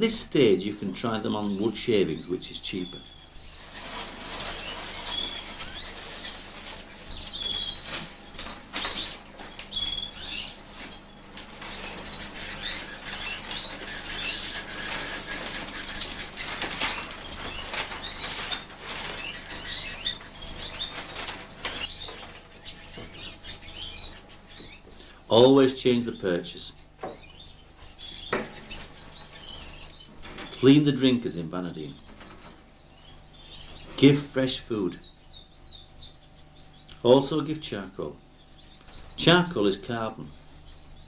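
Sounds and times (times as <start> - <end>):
canaries chirping: 0.0 - 41.0
wings fluttering and rustling: 0.4 - 35.1.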